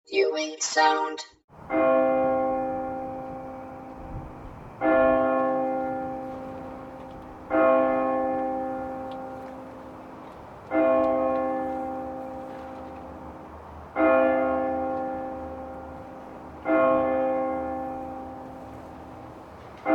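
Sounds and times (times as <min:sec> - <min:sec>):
church bell striking: 0:01.5 - 0:19.9.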